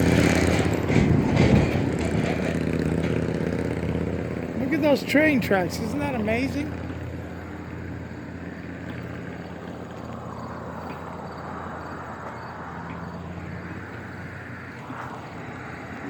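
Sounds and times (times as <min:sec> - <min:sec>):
outdoor noise: 0:00.0 - 0:16.0
vehicle engine humming: 0:00.0 - 0:16.0.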